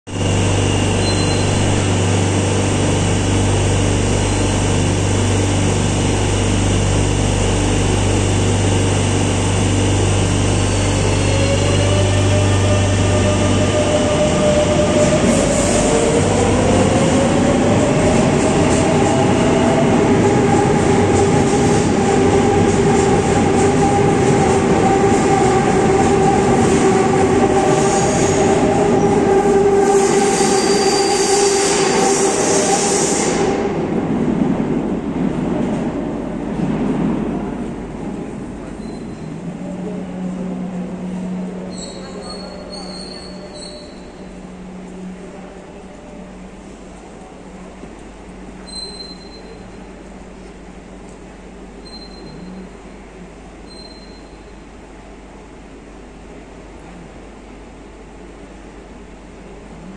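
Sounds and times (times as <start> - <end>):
train equipment hum: 0.1 - 59.9
train rumble: 0.1 - 59.9.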